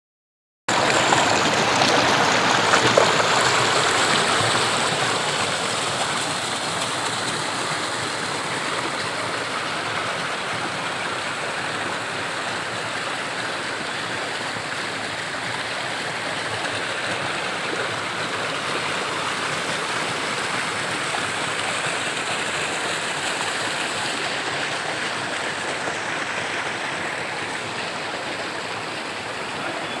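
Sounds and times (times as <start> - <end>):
waterfall rushing water: 0.7 - 30.0.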